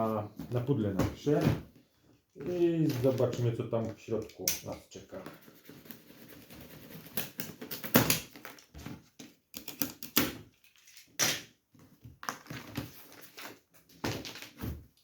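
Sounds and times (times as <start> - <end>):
cardboard and packaging rustling: 0.0 - 4.2, 5.1 - 15.0.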